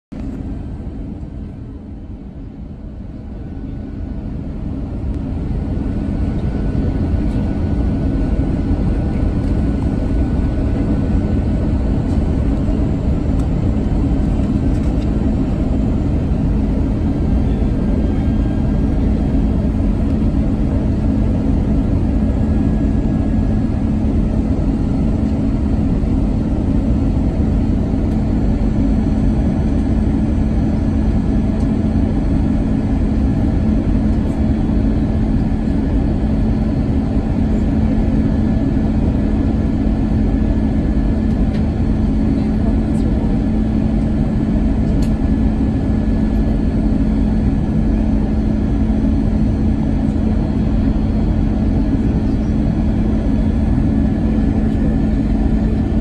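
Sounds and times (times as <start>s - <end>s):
aircraft engine noise: 0.2s - 56.0s.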